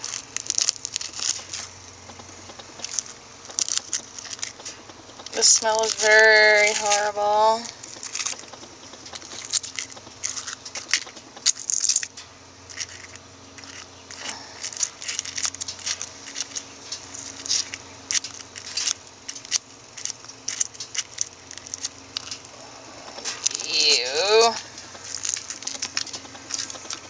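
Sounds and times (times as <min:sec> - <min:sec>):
eggshell cracking: 0:00.0 - 0:07.1, 0:07.7 - 0:27.0
soft squishing: 0:00.0 - 0:27.0.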